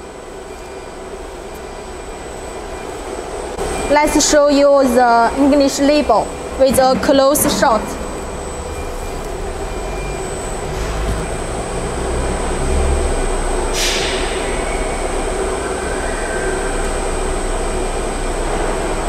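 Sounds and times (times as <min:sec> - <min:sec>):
high whine: 0:00.0 - 0:19.0.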